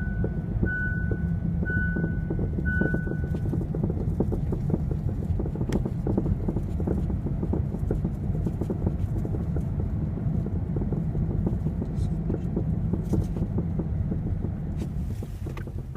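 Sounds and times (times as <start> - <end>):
engine knocking: 0.0 - 15.9
low engine rumble: 0.0 - 15.9.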